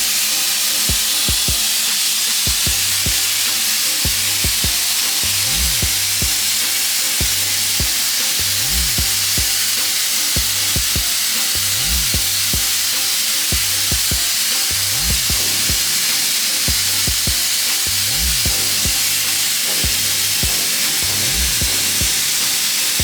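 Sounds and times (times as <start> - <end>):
music with beat and bass: 0.0 - 23.0
sandblaster hissing: 0.0 - 23.0.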